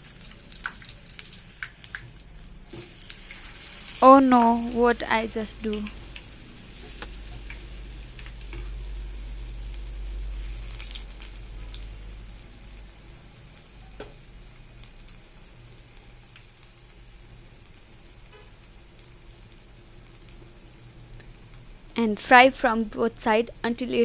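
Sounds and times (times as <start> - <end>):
deep-frying sizzle with crackles: 0.0 - 24.0.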